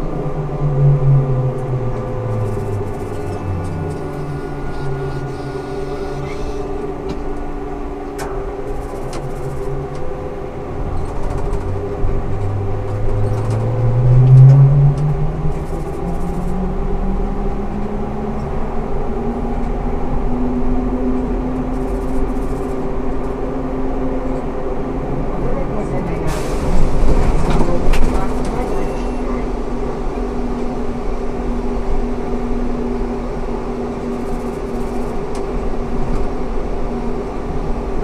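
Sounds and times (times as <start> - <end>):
road rumble: 0.0 - 38.0.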